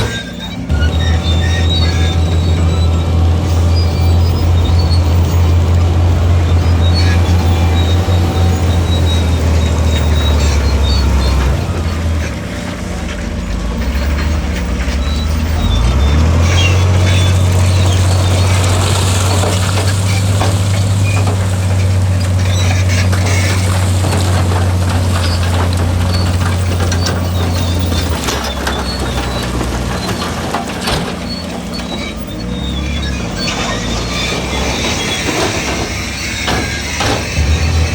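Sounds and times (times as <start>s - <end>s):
heavy diesel engine running: 0.0s - 37.9s
metal clanks and scraping: 0.0s - 37.9s.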